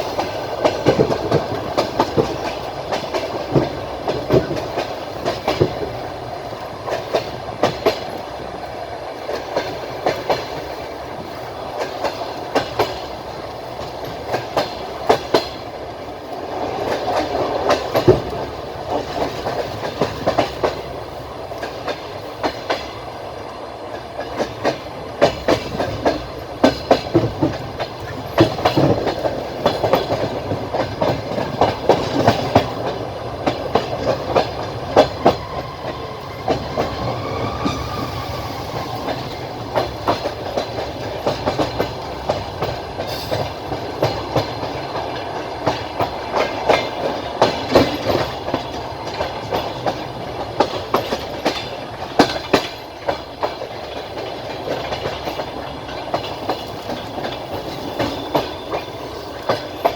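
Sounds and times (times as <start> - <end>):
train wheels clacking over rail joints: 0.0 - 23.1, 23.9 - 59.9
train ride rumble: 0.0 - 59.9.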